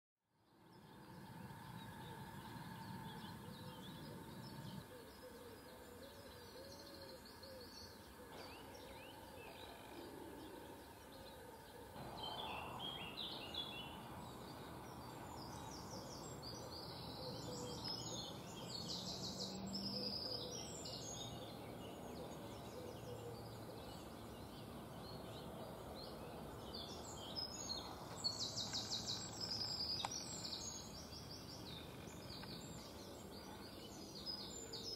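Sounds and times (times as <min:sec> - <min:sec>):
birds chirping: 0:00.5 - 0:34.9
birds calling: 0:00.6 - 0:34.9.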